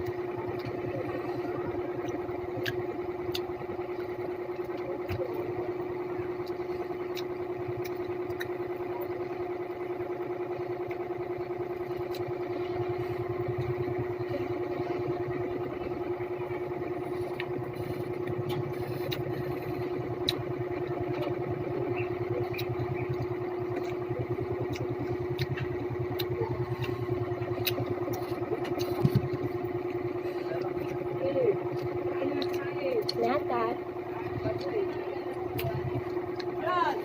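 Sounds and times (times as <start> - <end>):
motor humming: 0.0 - 37.0.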